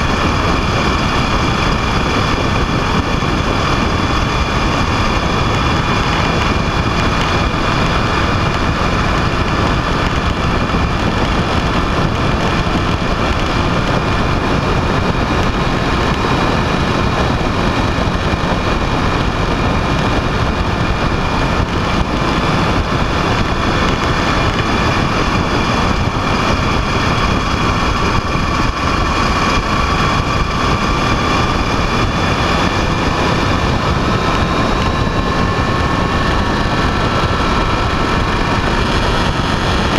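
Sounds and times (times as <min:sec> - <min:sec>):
steady whine: 0:00.0 - 0:39.9
vehicle engine running: 0:00.0 - 0:39.9
wind and road noise: 0:00.0 - 0:39.9.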